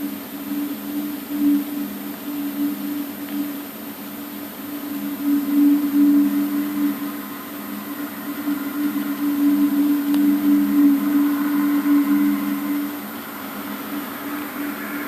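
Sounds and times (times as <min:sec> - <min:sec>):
loud low two-tone drone: 0:00.0 - 0:15.0.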